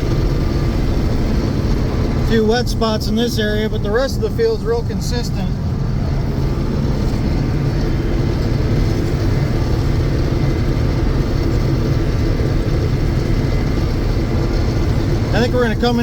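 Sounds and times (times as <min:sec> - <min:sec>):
combine harvester engine hum: 0:00.0 - 0:16.0.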